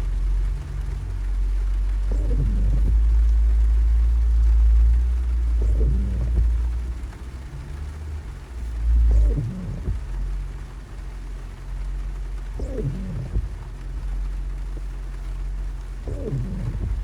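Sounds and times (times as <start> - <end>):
off-road vehicle engine rumbling: 0.0 - 17.0.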